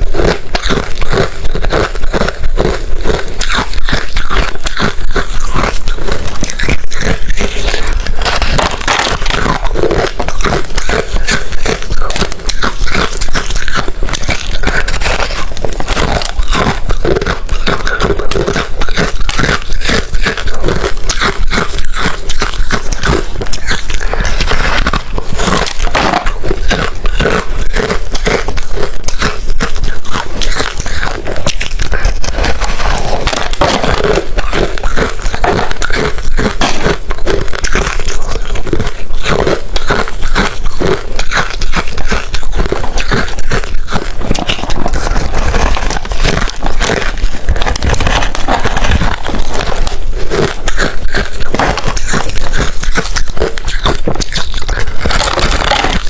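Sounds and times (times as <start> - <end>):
crunching ice being chewed: 0.0 - 56.0.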